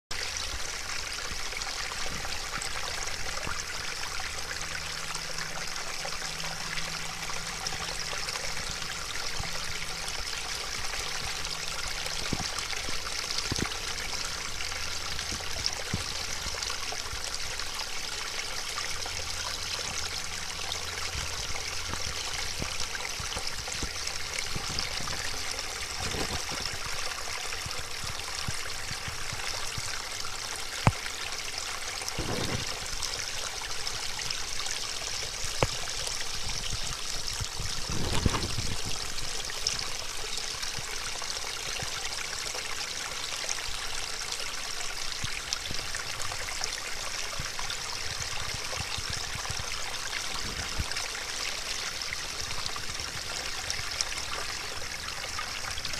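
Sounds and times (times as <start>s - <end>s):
stream trickling over rock: 0.1s - 55.9s.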